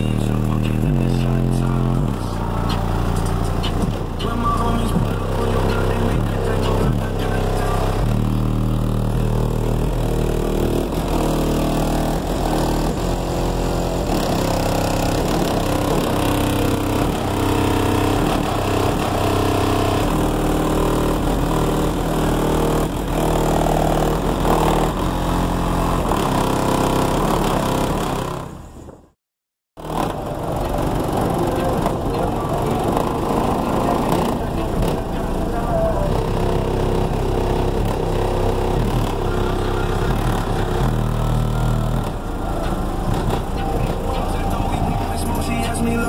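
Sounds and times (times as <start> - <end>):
bass-heavy music from car speakers: 0.0 - 28.8, 29.8 - 46.0.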